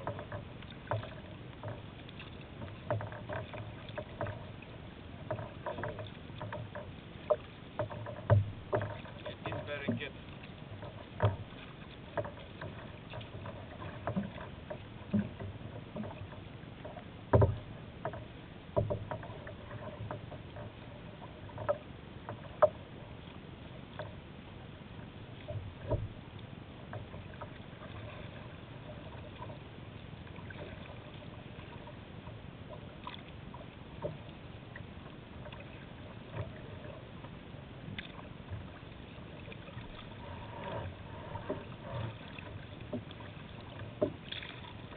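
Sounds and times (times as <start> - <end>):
paddle strokes splashing: 0.0 - 44.9
water slapping against hull: 0.0 - 44.9
wind: 0.0 - 44.9.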